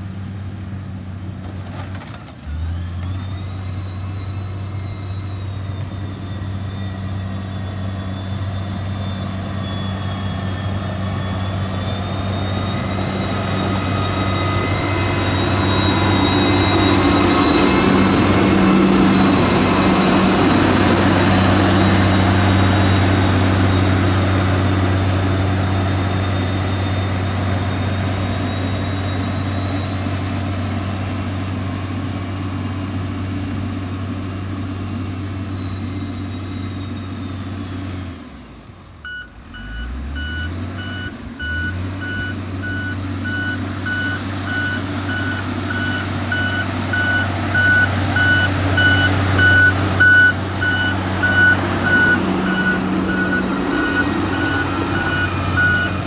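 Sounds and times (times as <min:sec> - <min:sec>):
diesel engine running with whine: 0:00.0 - 0:56.0.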